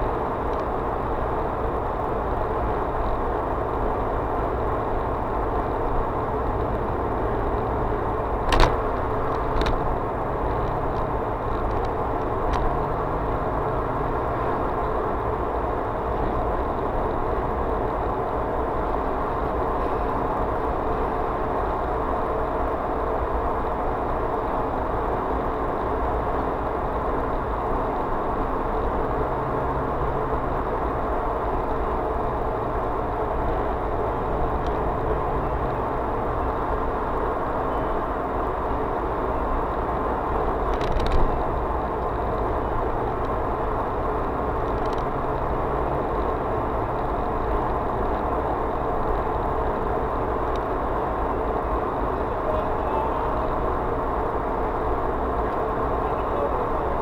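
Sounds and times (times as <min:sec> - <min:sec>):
vehicle road and engine noise: 0:00.0 - 0:57.0.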